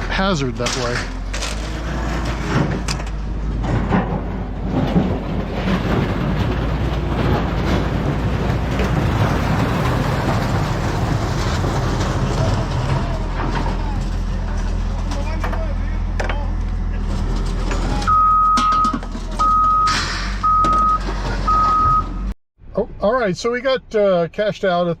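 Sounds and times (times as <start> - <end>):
engine running with low rumble: 0.0 - 22.3.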